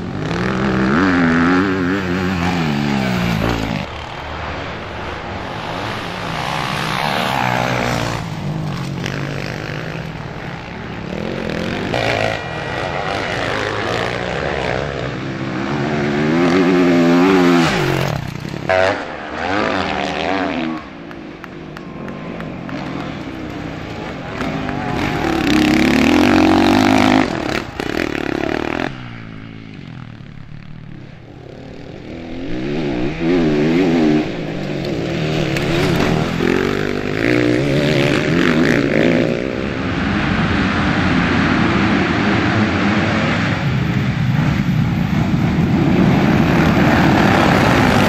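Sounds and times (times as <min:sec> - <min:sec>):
motocross bikes revving past: 0:00.0 - 0:48.0.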